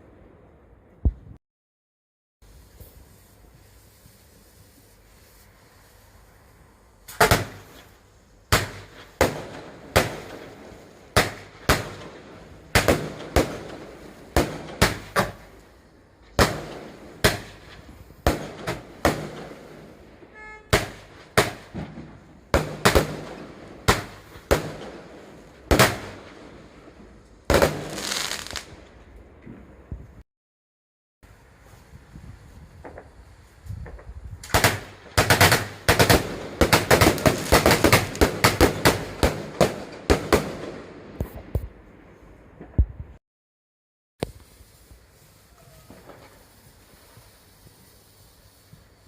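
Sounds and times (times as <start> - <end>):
fireworks exploding: 2.5 - 29.0, 32.6 - 41.6, 44.2 - 49.0.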